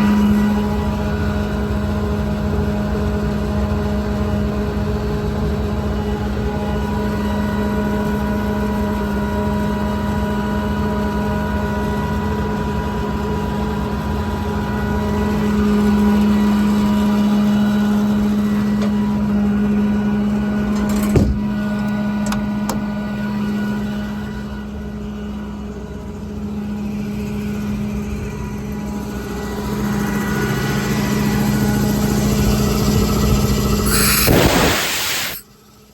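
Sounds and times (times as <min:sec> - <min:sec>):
diesel engine droning: 0:00.0 - 0:35.4.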